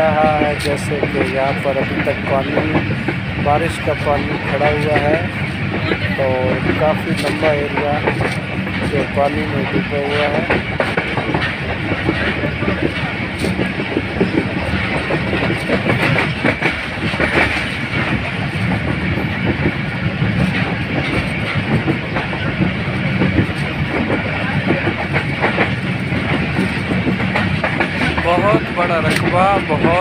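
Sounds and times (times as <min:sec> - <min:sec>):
clacks over rail joints: 0:00.0 - 0:30.0
train wheels rumbling on rails: 0:00.0 - 0:30.0.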